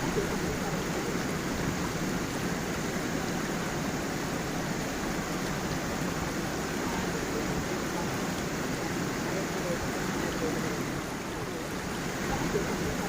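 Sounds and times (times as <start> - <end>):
stream flowing over stones: 0.0 - 13.0.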